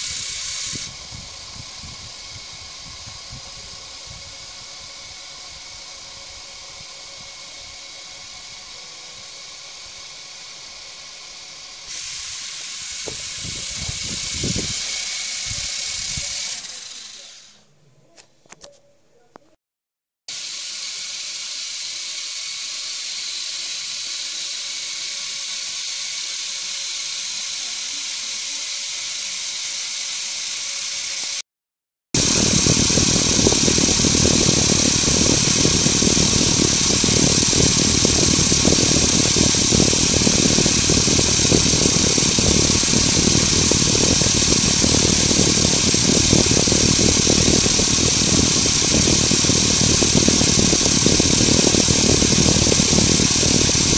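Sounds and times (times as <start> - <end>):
small electric motor whirring: 0.0 - 17.7, 20.3 - 31.4, 32.2 - 53.9.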